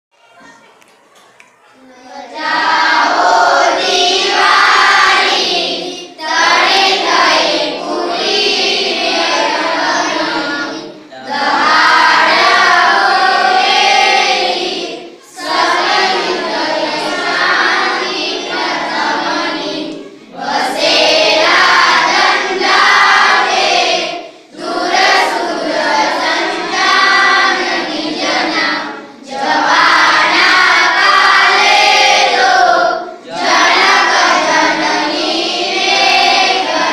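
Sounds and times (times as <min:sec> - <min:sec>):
children singing in unison: 0:01.7 - 0:36.9.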